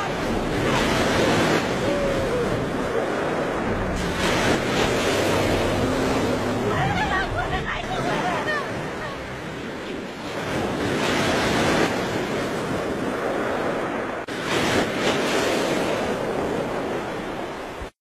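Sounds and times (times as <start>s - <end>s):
steady rushing noise: 0.0s - 17.9s.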